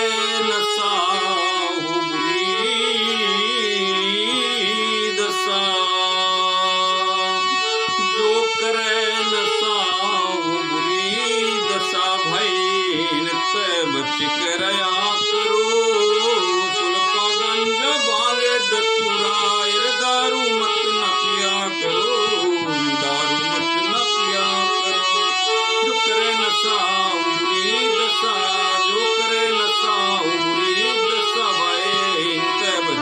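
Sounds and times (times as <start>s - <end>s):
harmonium melody: 0.0s - 33.0s.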